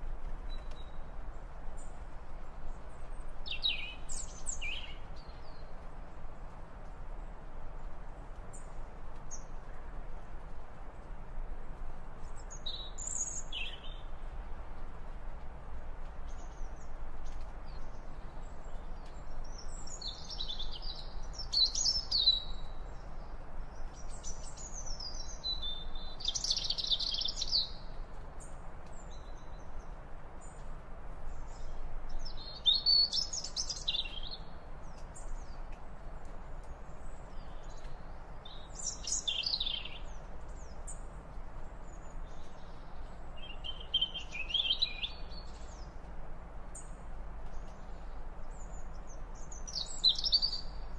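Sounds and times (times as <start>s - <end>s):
faint outdoor hiss: 0.0s - 50.9s.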